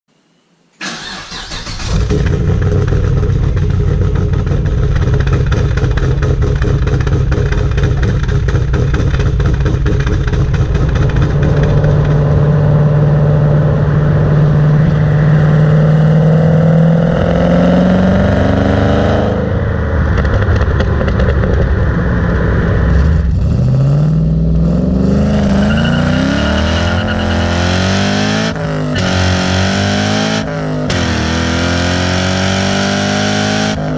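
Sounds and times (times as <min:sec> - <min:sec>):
car engine starting idling and revving: 0:00.8 - 0:33.9.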